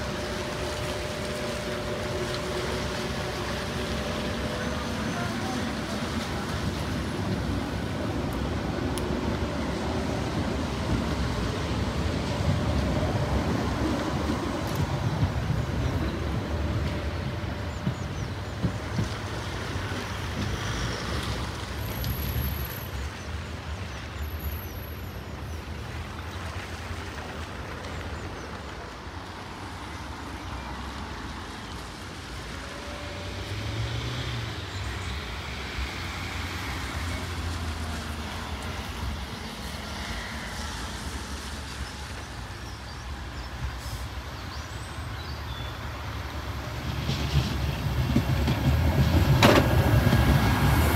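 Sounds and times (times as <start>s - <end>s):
tram running with low rumble: 0.0s - 50.9s.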